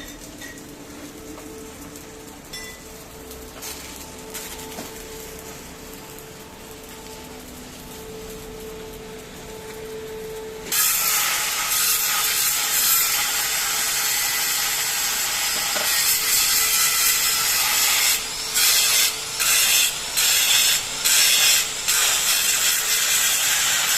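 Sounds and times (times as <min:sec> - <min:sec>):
welding arc crackling hiss: 0:00.0 - 0:23.9.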